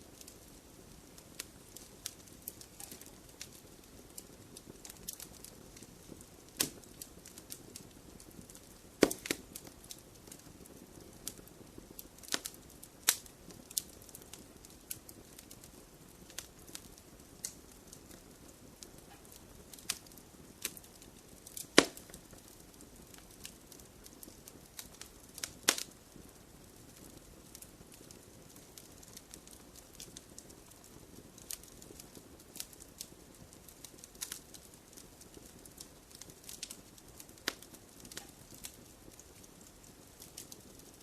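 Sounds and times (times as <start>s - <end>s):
fire pops and snaps: 0.0s - 41.0s
wood fire crackling: 0.0s - 41.0s.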